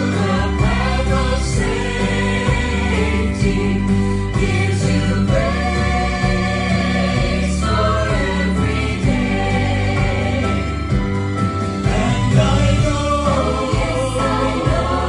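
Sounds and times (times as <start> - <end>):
instrumental accompaniment: 0.0 - 15.0
voices singing gospel: 0.0 - 15.0.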